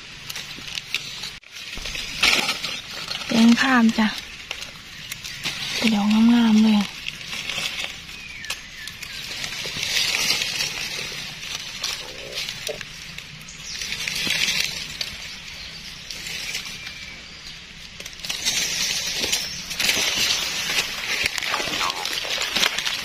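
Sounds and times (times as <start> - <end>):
dry leaves rustling and crackling: 0.0 - 23.0.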